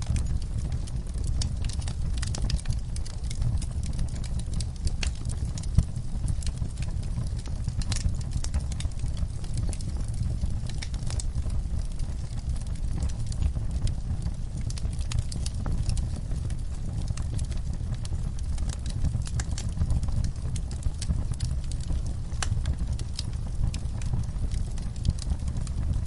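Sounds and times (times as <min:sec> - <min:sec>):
low rumble of flames: 0:00.0 - 0:26.0
wood fire crackling: 0:00.0 - 0:26.0.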